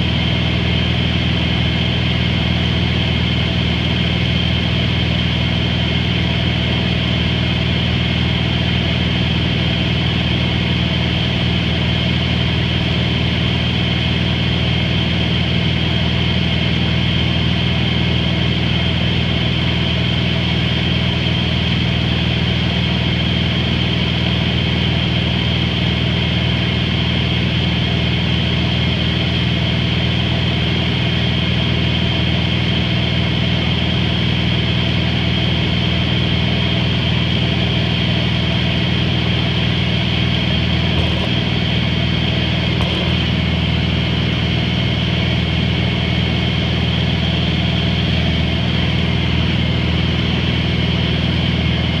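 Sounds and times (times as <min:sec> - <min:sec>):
light aircraft engine drone: 0:00.0 - 0:52.0.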